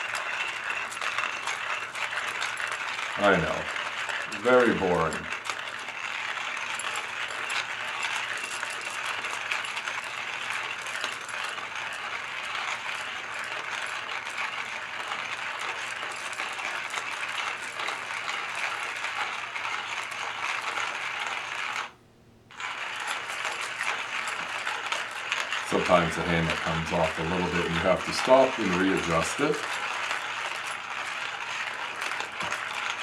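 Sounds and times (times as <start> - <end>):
hand coffee grinder crunching beans: 0.0 - 33.0.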